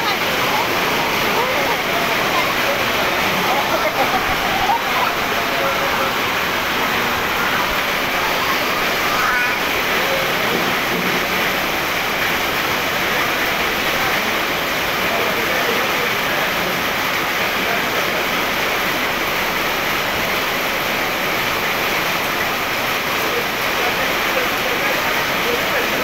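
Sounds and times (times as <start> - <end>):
faint voices: 0.0 - 26.0
rushing background noise: 0.0 - 26.0.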